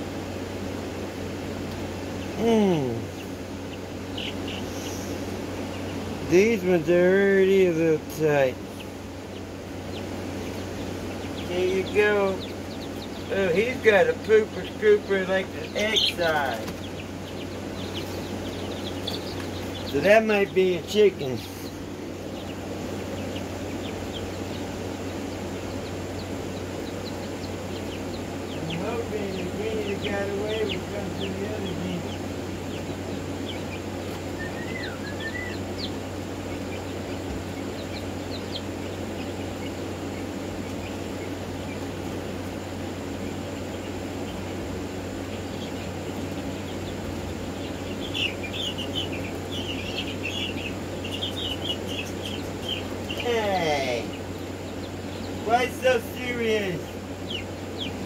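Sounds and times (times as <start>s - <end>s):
chicks peeping: 0.0s - 58.0s
steady low hum: 0.0s - 58.0s.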